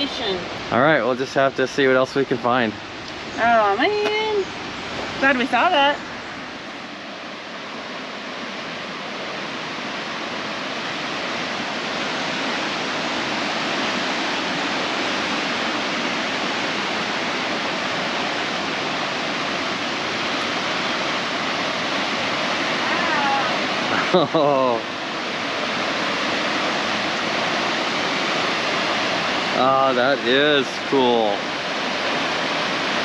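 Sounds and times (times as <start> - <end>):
large waterfall roaring: 0.0 - 33.0.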